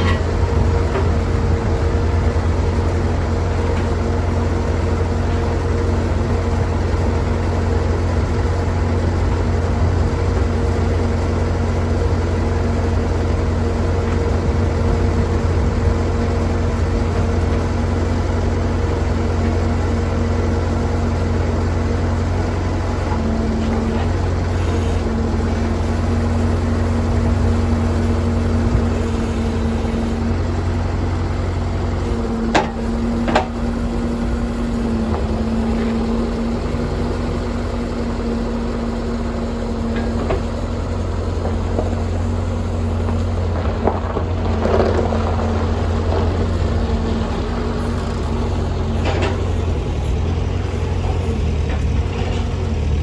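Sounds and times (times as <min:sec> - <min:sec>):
digging machine engine running: 0:00.0 - 0:53.0.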